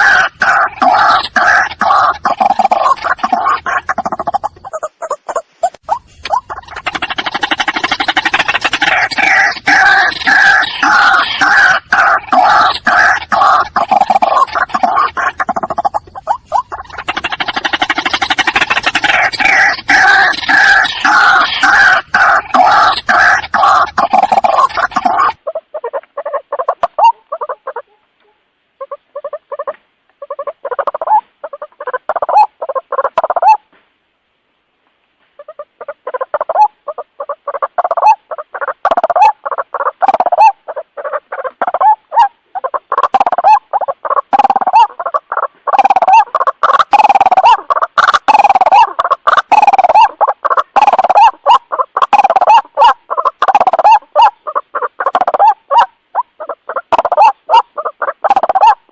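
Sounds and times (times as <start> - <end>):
bird calling repeated notes: 0.0 - 33.7, 37.8 - 58.9.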